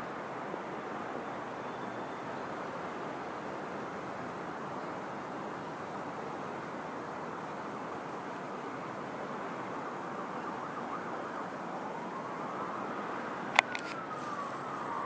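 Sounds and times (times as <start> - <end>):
city hiss: 0.0 - 15.0
distant siren wailing: 0.5 - 15.0.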